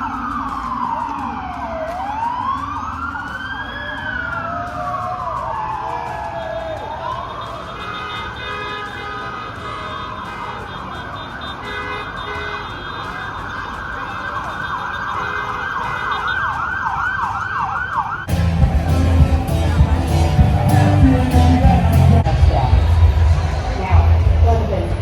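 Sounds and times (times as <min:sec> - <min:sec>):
emergency vehicle siren: 0:00.0 - 0:24.4.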